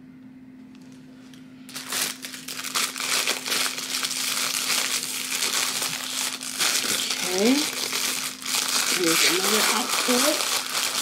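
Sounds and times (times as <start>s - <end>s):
plastic bag crinkling: 1.7s - 11.0s.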